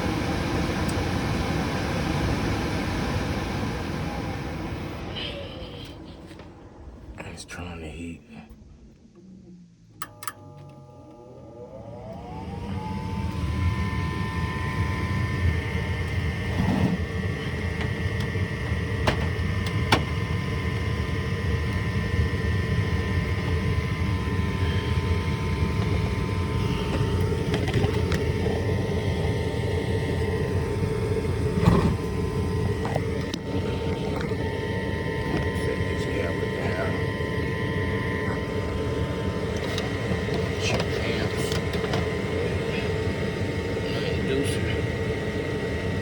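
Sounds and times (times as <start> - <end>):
hvac motor humming and whining: 0.0 - 46.0.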